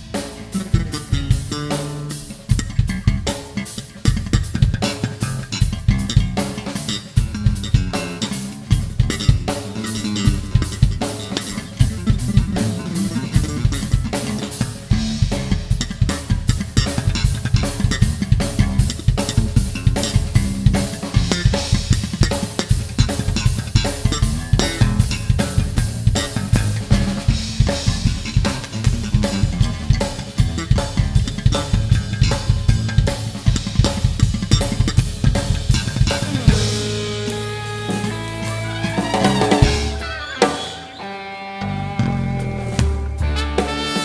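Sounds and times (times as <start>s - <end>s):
cymbals washing: 0.0s - 41.0s
drum kit played fast: 0.0s - 41.1s, 41.8s - 44.0s.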